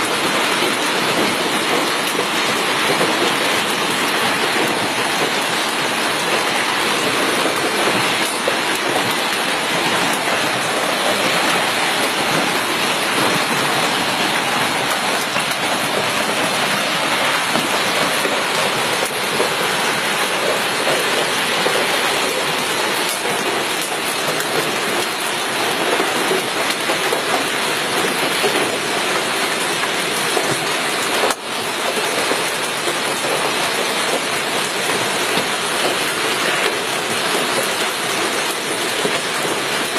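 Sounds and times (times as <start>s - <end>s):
hail and heavy rain clattering: 0.0s - 39.9s.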